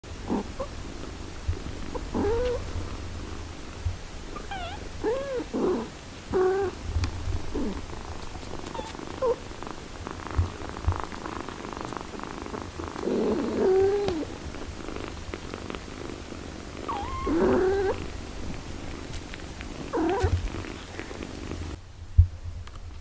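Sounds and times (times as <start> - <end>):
cat purring: 0.0 - 21.8
kittens mewing: 0.3 - 3.5, 4.3 - 6.8, 7.4 - 15.9, 16.8 - 21.8.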